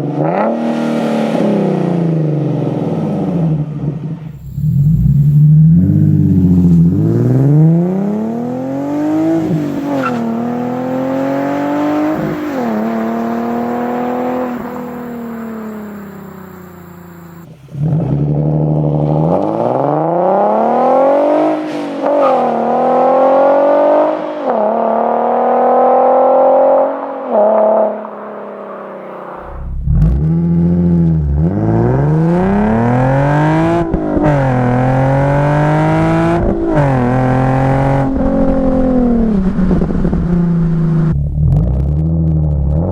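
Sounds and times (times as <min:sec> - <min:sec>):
car engine accelerating hard: 0:00.0 - 0:42.9.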